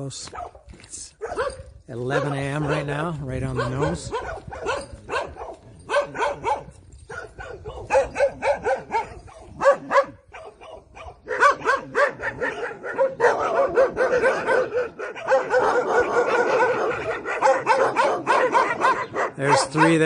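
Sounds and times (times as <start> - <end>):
dogs barking: 0.3 - 20.0.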